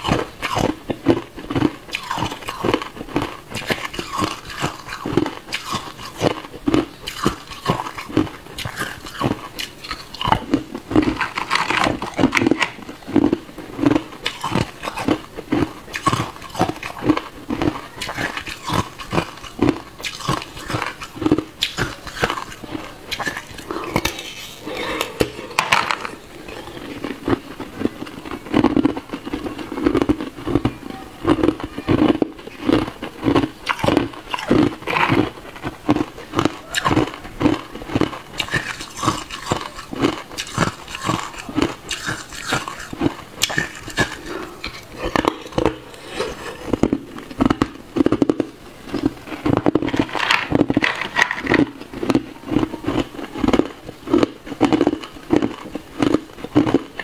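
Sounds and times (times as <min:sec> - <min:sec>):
ice cubes crunching: 0:00.0 - 0:57.0.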